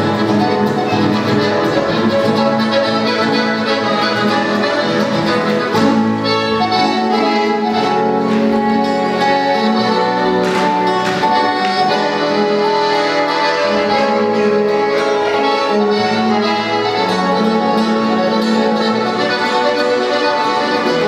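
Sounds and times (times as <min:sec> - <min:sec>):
latin american trio playing live: 0:00.0 - 0:21.0.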